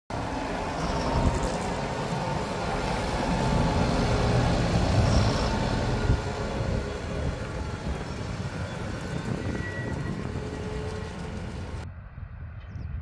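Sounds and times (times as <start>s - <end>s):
tractor engine rumble: 0.1s - 11.8s.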